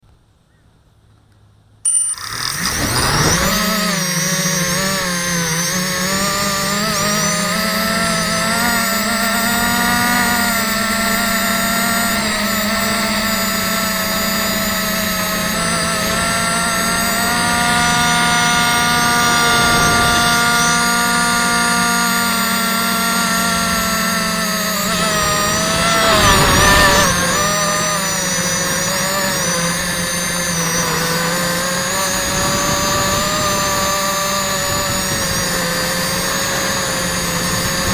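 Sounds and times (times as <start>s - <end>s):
drone propellers buzzing: 1.9s - 37.9s.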